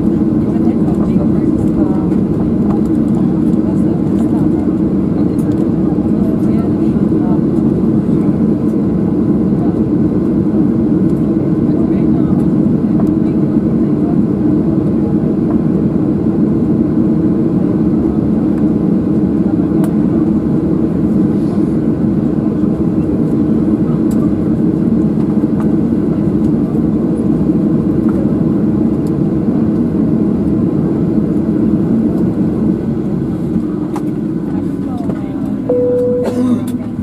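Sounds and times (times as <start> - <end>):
airliner cabin engine drone: 0.0 - 37.0.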